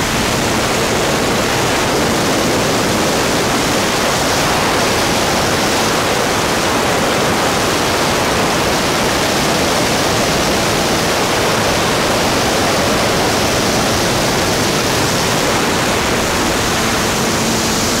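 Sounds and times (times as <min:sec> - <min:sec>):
aircraft engine noise: 0:00.0 - 0:18.0
airflow rushing: 0:00.0 - 0:18.0
faint engine hum: 0:00.0 - 0:18.0.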